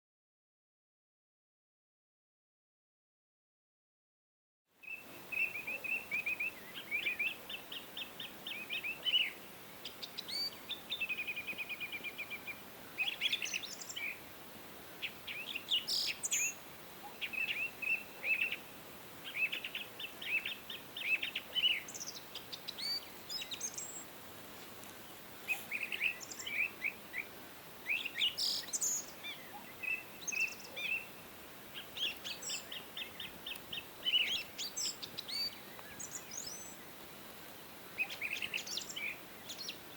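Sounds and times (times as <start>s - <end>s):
faint background hiss: 4.7s - 39.9s
songbirds chirping: 4.7s - 39.9s.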